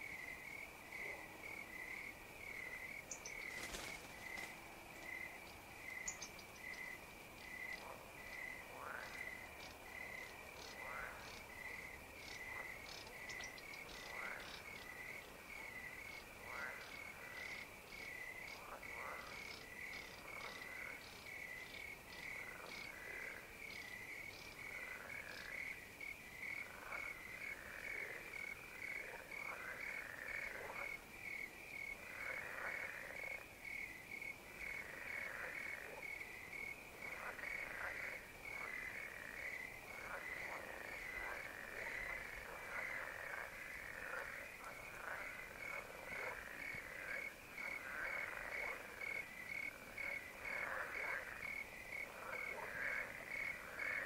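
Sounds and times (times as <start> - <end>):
crickets chirping: 0.0 - 54.0
frogs calling: 0.0 - 54.0.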